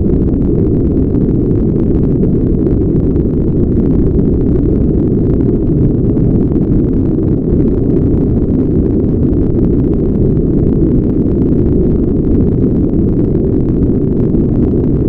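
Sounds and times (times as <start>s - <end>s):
brown noise: 0.0s - 15.0s.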